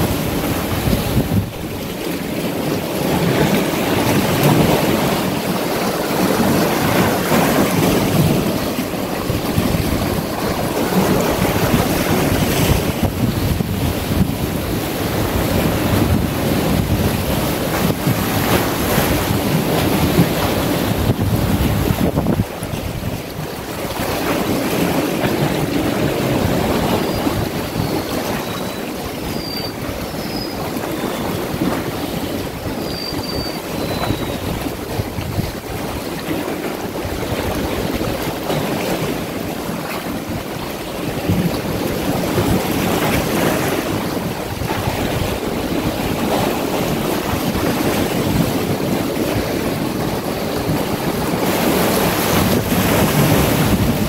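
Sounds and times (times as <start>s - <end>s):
sea waves breaking on boulders: 0.0s - 54.0s
wind buffeting microphone: 0.0s - 54.0s.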